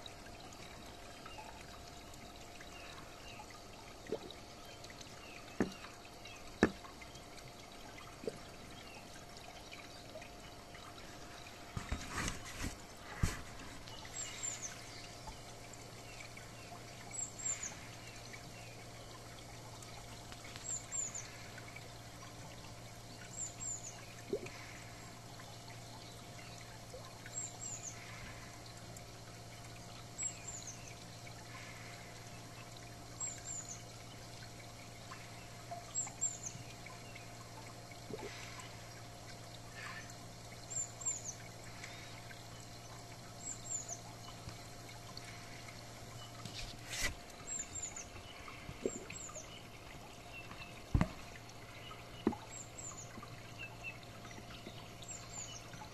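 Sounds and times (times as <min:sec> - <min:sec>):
water trickling into pond: 0:00.0 - 0:55.9.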